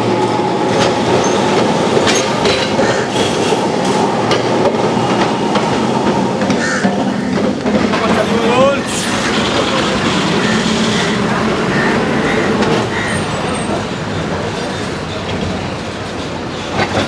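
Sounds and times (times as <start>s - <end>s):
bus engine passing: 0.0s - 16.8s
street traffic: 0.0s - 17.0s
tram on street rails: 0.0s - 17.0s.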